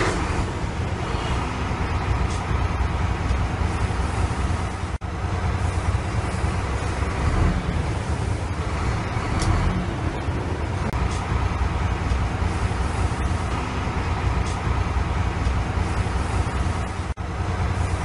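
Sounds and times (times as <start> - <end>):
heavy vehicle engine droning: 0.0 - 18.0.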